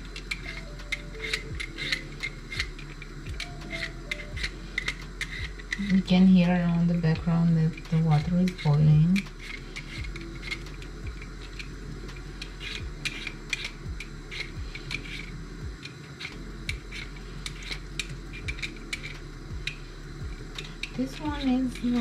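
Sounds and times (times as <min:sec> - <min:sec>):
vegetable peeler scraping potatoes: 0:00.0 - 0:22.0.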